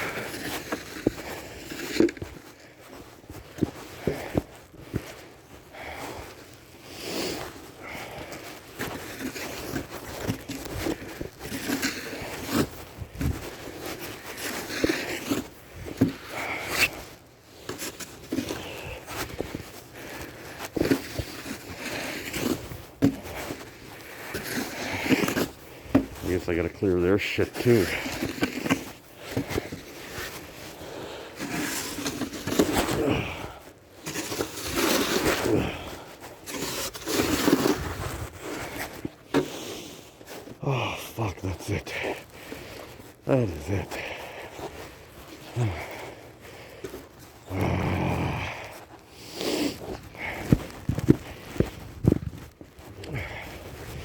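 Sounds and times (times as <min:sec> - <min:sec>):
snow shovel scraping snow: 0:00.0 - 0:05.2, 0:05.8 - 0:40.6, 0:41.7 - 0:54.0
footsteps crunching in snow: 0:00.0 - 0:54.0.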